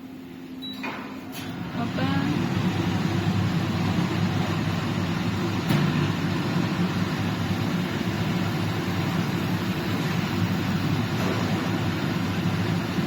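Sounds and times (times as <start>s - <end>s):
dehumidifier fan hum: 0.0s - 13.0s.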